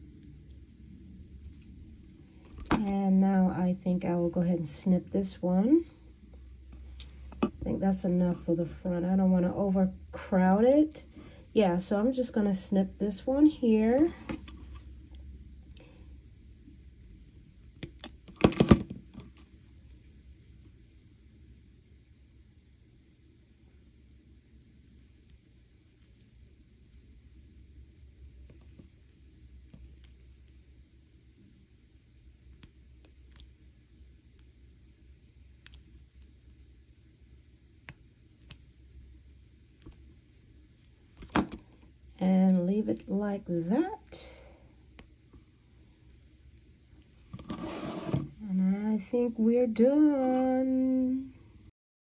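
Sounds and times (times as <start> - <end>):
low steady hum: 0.0 - 51.7.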